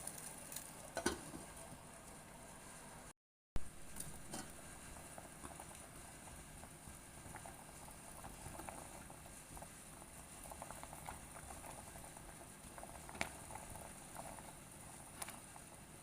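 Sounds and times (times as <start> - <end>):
food bubbling on stove: 0.0 - 16.0.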